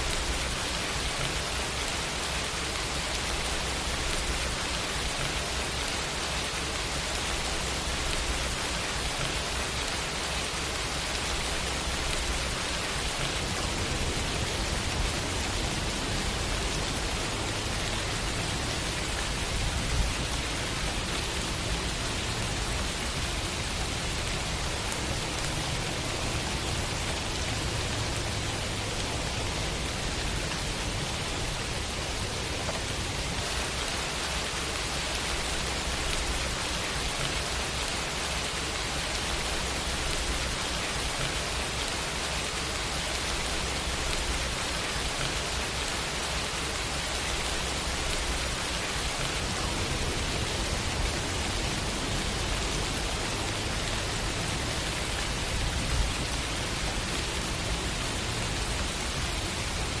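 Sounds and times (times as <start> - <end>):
rain on hard surfaces: 0.0 - 60.0.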